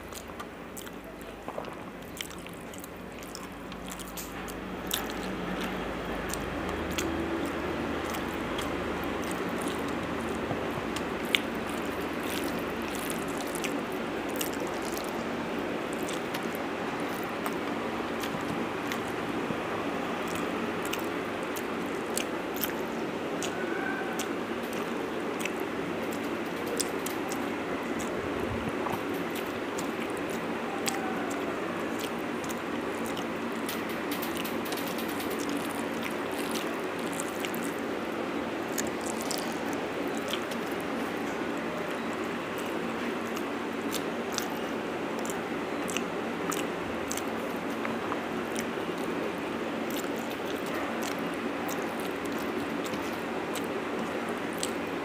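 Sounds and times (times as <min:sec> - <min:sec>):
fingers squishing rice: 0:00.0 - 0:28.2, 0:28.8 - 0:55.0
chewing: 0:00.0 - 0:55.0.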